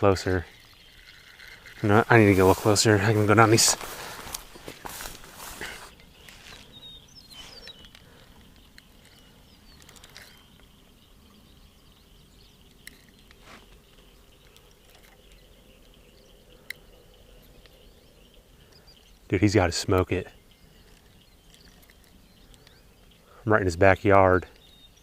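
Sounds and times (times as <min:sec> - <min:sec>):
bird chirps: 0:00.0 - 0:25.0.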